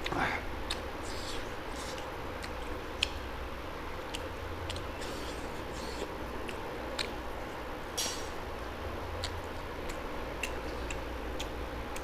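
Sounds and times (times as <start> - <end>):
wet mouth clicks: 0.0 - 3.3, 3.9 - 8.4, 9.2 - 12.0
low background hum: 0.0 - 12.0
person chewing food: 0.0 - 12.0.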